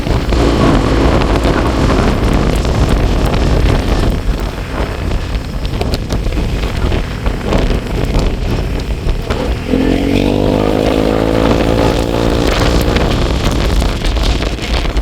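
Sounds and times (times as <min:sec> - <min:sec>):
pitched engine drone: 0:00.0 - 0:15.0
vehicle engine rumble: 0:00.0 - 0:15.0.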